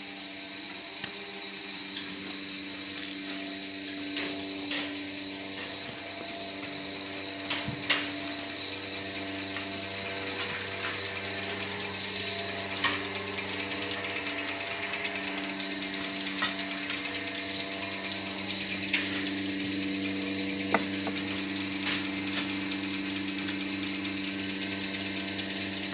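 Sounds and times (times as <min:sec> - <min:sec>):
machine motor humming: 0:00.0 - 0:25.9.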